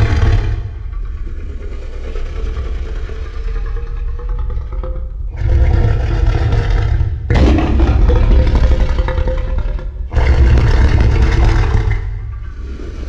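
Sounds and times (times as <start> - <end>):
heavy deep rumble: 0.0 - 13.0.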